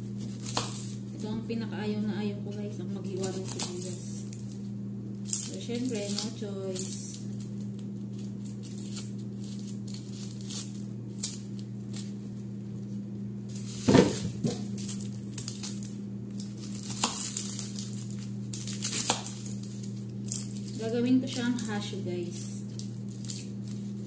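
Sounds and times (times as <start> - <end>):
low hum: 0.0 - 24.0
onion skin crackling: 0.0 - 24.0.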